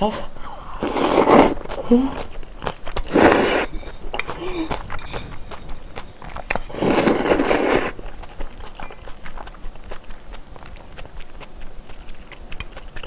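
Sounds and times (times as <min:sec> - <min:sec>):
noodle slurp: 0:00.8 - 0:13.0
wet chewing clicks: 0:00.8 - 0:13.0.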